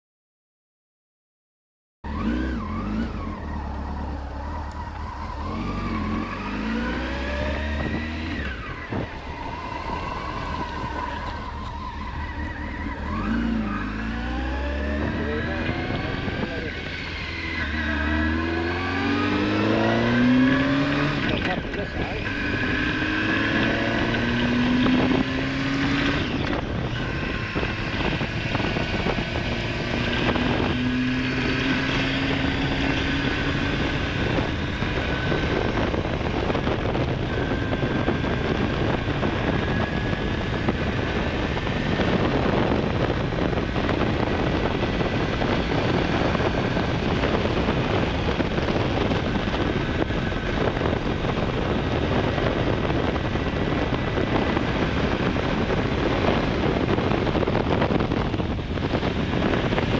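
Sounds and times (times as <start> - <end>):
motorcycle engine accelerating: 2.0 - 59.9
wind rush on microphone: 2.0 - 59.9.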